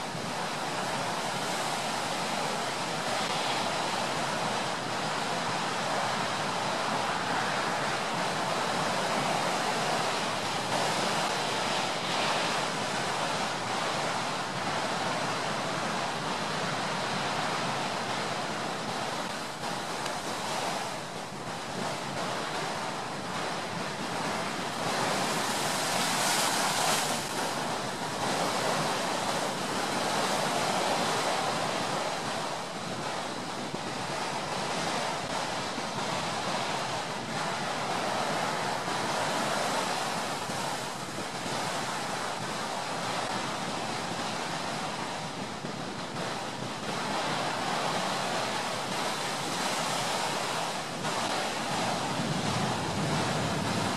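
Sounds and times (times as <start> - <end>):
ocean waves washing: 0.0 - 53.9.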